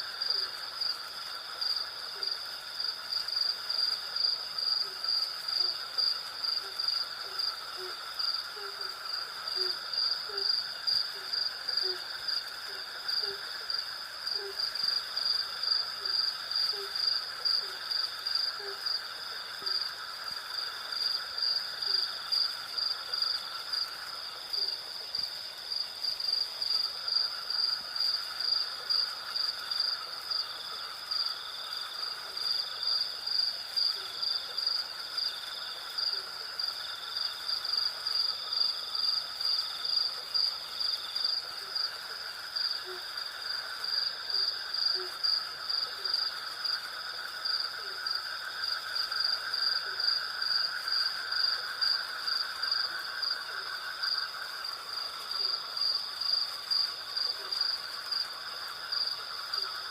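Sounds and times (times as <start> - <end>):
crickets chirring: 0.0 - 59.9
low insect drone: 0.0 - 59.9.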